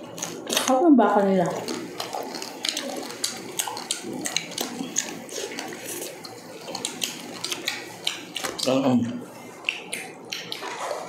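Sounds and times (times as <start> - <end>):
wet chewing and lip smacking: 0.0 - 0.7, 1.5 - 8.8, 9.5 - 11.0.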